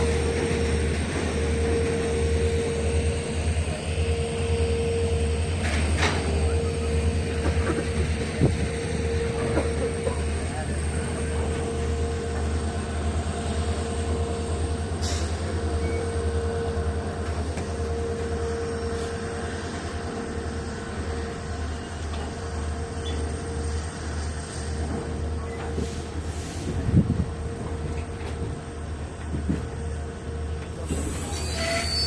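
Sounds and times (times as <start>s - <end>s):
goods train rumbling: 0.0s - 32.0s.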